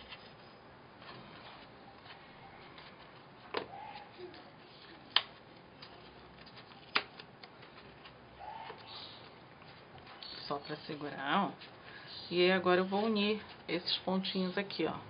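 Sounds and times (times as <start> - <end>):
low room hiss: 0.0 - 15.0.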